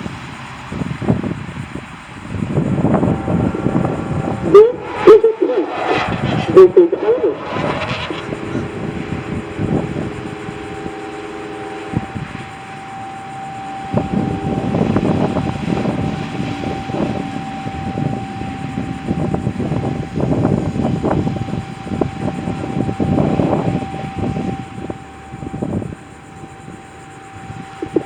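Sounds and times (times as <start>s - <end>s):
wind buffeting microphone: 0.0s - 28.0s
faint high tone: 2.5s - 26.0s.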